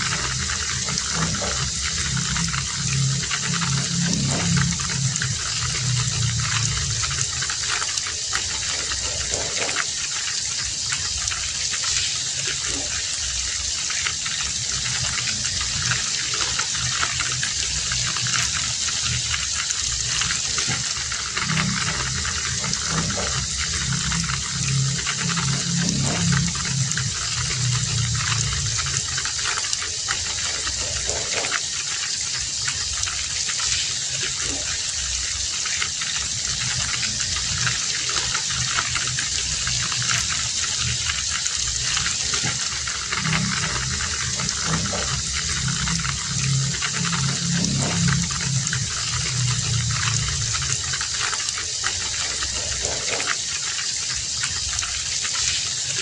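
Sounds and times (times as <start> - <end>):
low pulsing sound: 0.0 - 31.6, 36.0 - 53.4
heavy rain falling: 0.0 - 56.0.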